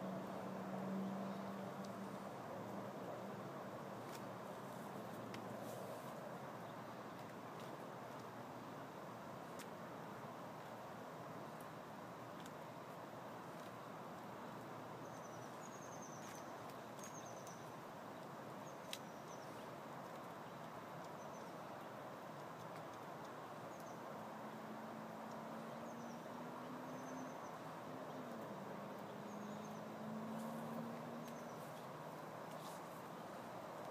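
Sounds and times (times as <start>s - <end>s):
steady background hiss: 0.0s - 33.9s.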